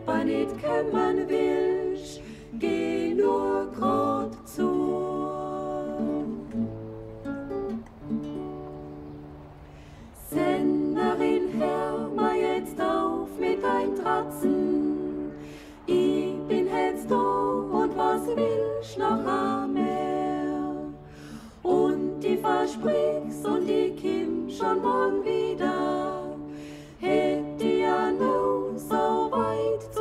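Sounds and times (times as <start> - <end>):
women singing in harmony: 0.0 - 6.7, 10.0 - 30.0
acoustic guitar: 0.0 - 30.0.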